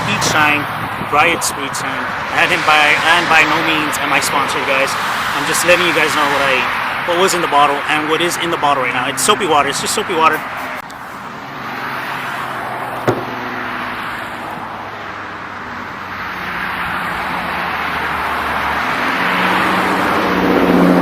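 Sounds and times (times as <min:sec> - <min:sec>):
car engines running: 0:00.0 - 0:21.0
traffic noise: 0:00.0 - 0:21.0.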